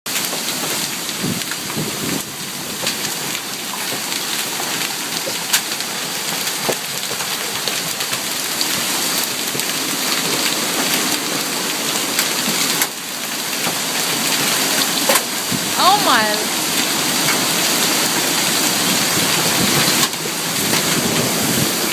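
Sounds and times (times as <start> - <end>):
hailstones knocking: 0.1 - 15.8, 16.5 - 21.9
heavy rain: 0.1 - 21.9.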